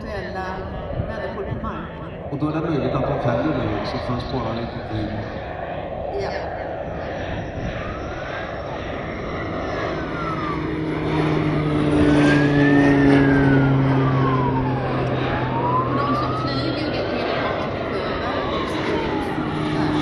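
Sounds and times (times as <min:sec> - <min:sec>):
turboprop aircraft droning: 0:00.0 - 0:20.0
warning siren wailing: 0:00.0 - 0:20.0.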